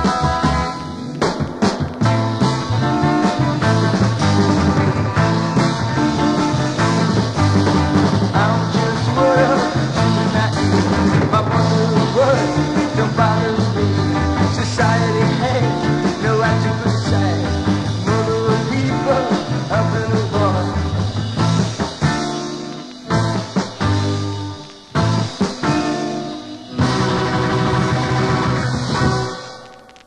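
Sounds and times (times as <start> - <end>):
psychedelic rock band playing: 0.0 - 30.0.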